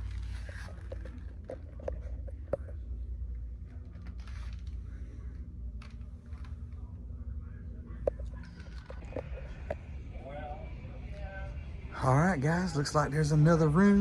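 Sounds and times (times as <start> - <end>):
low indoor rumble: 0.0 - 14.0.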